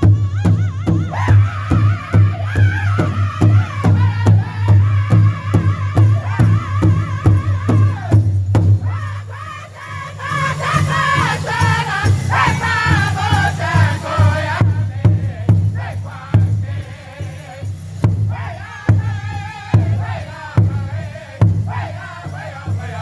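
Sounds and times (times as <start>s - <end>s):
chorus of high wavering voices: 0.0s - 8.2s, 8.8s - 23.0s
large drum steady beat: 0.0s - 9.6s, 10.2s - 23.0s.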